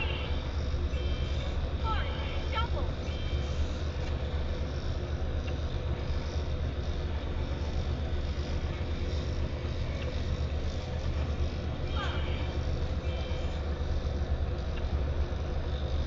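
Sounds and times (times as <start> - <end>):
noise haze: 0.0 - 16.0
vehicle engine rumble: 0.0 - 16.0.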